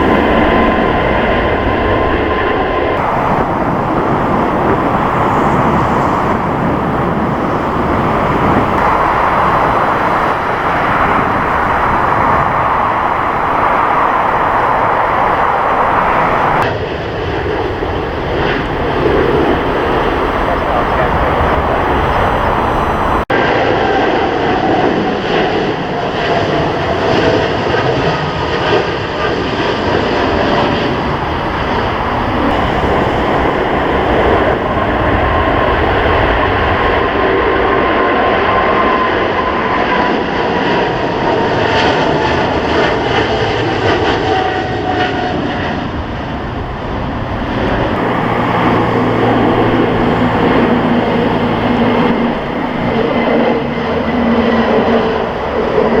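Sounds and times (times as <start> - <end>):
jet airliner taking off: 0.0 - 56.0
jet engine whine: 0.0 - 56.0.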